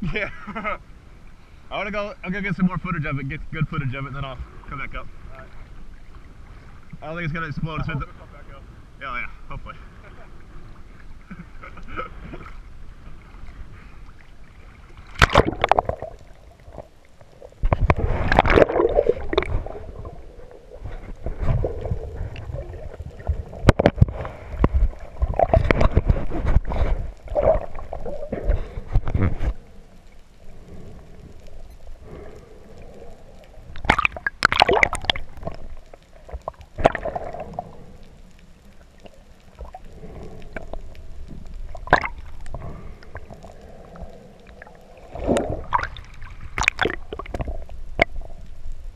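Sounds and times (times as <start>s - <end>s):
muffled low rumbles: 0.0s - 48.9s
water sloshing and gurgling: 0.0s - 48.9s.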